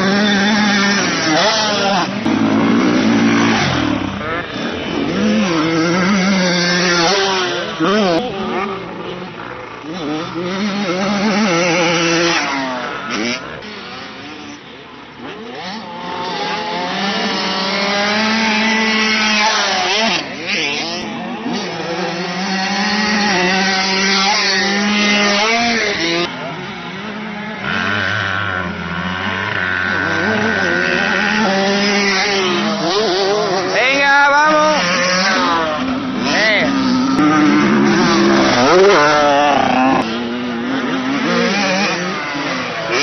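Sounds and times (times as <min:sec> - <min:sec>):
motorcycle engines revving: 0:00.0 - 0:43.0.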